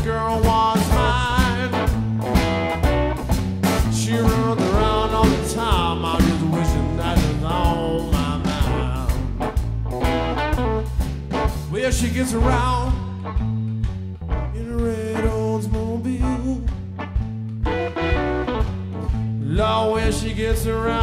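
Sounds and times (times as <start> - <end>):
upbeat song with guitar and drums: 0.0 - 21.0.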